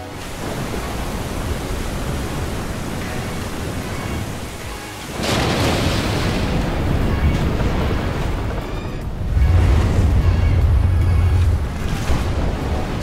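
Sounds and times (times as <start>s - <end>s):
ocean surf breaking: 0.0s - 13.0s
wave crashing: 0.0s - 13.0s.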